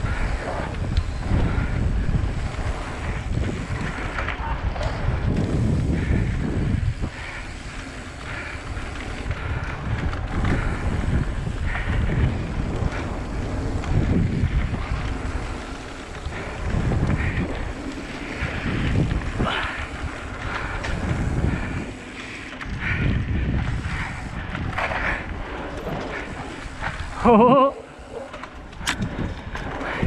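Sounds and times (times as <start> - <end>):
tyres rolling over gravel: 0.0 - 30.0
wind buffeting microphone: 0.0 - 30.0.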